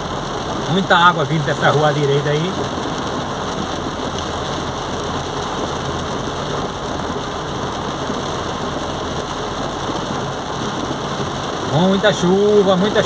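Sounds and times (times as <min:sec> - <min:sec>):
car engine running low: 0:00.0 - 0:13.0
heavy rain on car roof: 0:00.0 - 0:13.0.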